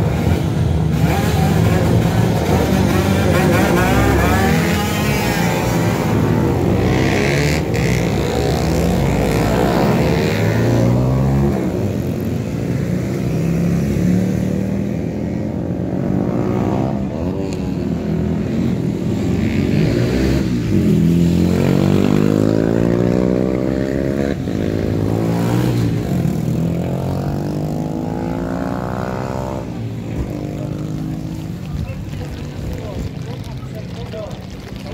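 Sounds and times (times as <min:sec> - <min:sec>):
motorcycle engines accelerating: 0:00.0 - 0:34.9.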